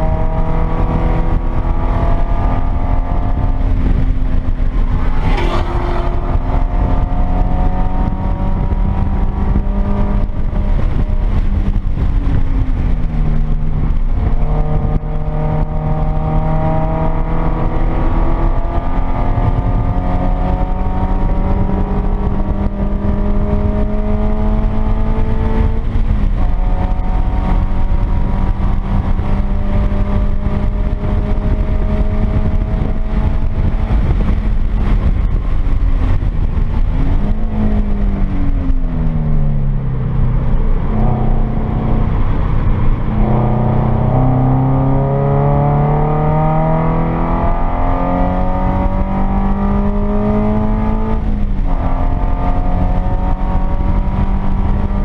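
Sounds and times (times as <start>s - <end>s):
car engine under load: 0.0s - 55.0s
tyre and road noise: 0.0s - 55.0s.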